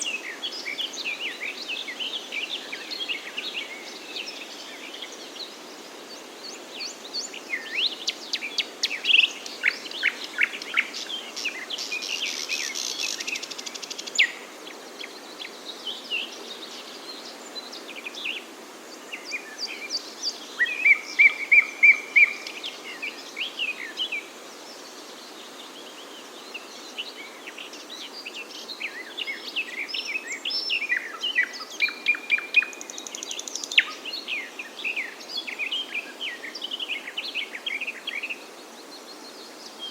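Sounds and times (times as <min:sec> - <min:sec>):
faint steady hiss: 0:00.0 - 0:39.9
songbirds chirping and singing: 0:00.0 - 0:39.9.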